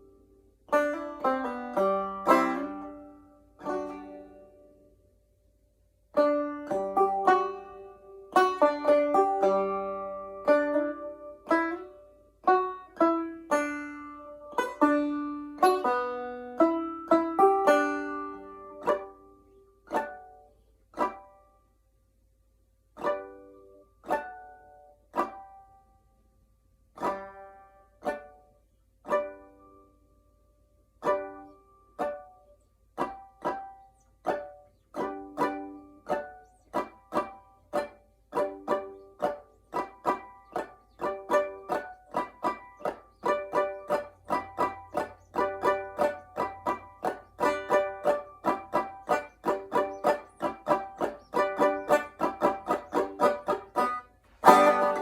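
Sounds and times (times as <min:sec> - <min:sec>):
banjo picking: 0:00.0 - 0:21.9, 0:22.6 - 0:55.0.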